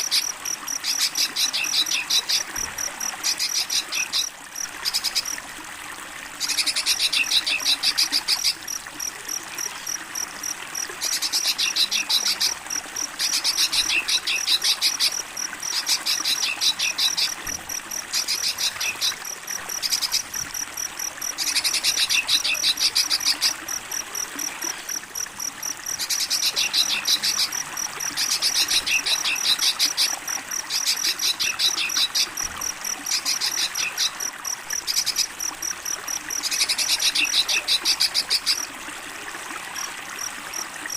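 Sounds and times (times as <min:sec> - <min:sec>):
crickets chirping: 0:00.0 - 0:05.5, 0:06.3 - 0:38.8, 0:39.6 - 0:40.9
running water: 0:00.0 - 0:40.9.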